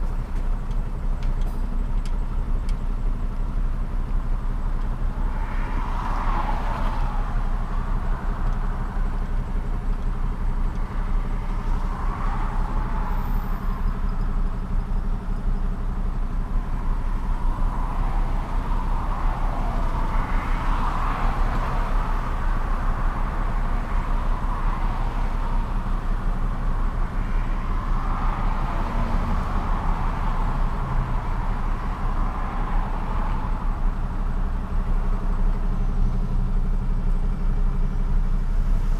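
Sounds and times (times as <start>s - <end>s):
road noise: 0.0s - 38.9s
truck engine hum: 0.0s - 38.9s.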